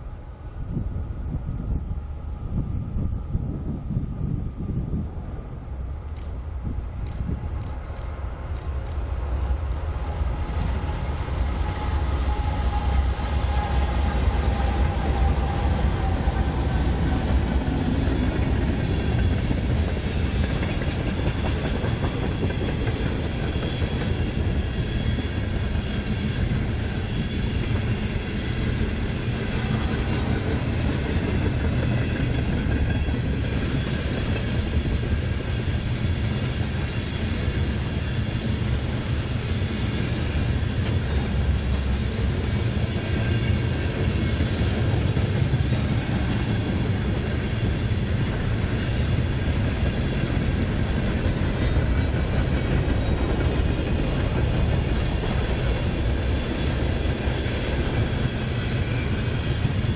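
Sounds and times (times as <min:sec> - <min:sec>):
train cars rolling past: 0:00.0 - 0:59.9.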